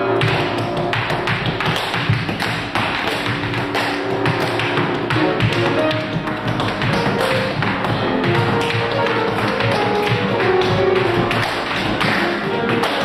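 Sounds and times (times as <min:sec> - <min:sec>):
live piano: 0:00.0 - 0:13.0
tap shoes on wooden floor: 0:00.2 - 0:13.0.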